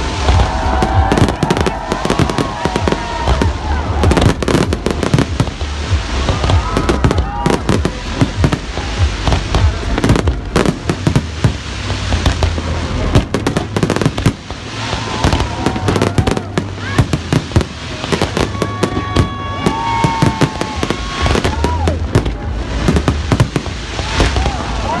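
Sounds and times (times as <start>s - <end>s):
firework whistling: 0.0s - 25.0s
fireworks bangs and crackles: 0.0s - 25.0s
low rumble: 0.0s - 25.0s.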